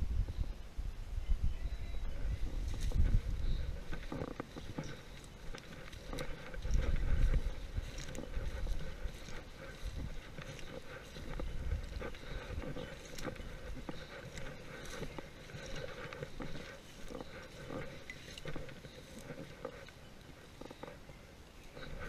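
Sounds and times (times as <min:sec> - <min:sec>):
wind buffeting microphone: 0:00.0 - 0:21.1
footsteps through dry grass: 0:01.8 - 0:22.0.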